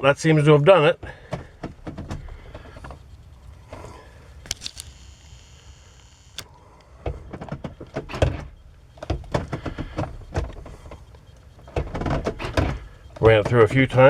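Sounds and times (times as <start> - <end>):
gear shifter clicks and clunks: 1.0 - 14.0.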